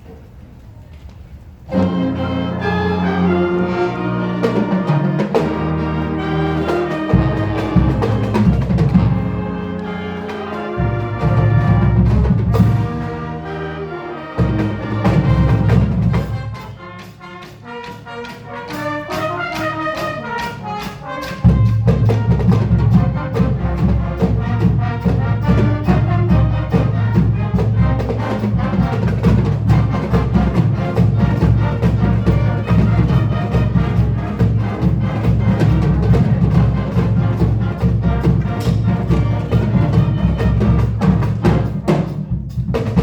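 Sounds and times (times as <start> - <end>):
marching band with brass and percussion: 1.6 - 43.0.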